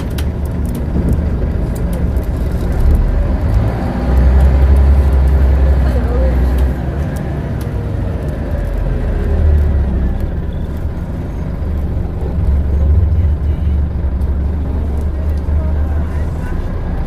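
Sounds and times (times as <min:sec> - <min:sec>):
bus engine drone: 0:00.0 - 0:17.0
drivetrain whine: 0:00.0 - 0:17.0.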